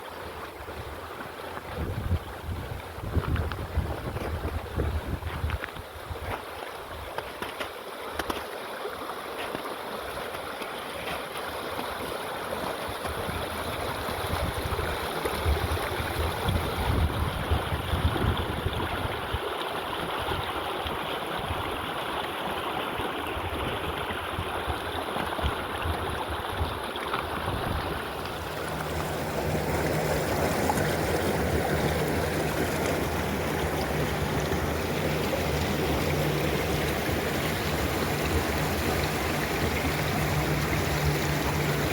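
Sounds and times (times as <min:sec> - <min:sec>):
stream water gurgling: 0:00.0 - 0:41.9.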